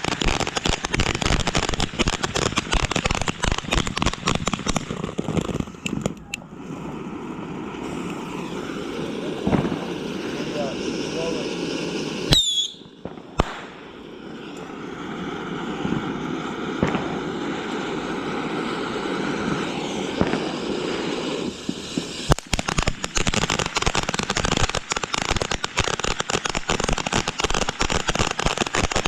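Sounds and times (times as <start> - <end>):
firework crackling: 0.0 - 29.0
firework popping: 0.0 - 29.0
firework rushing hiss: 0.0 - 29.0.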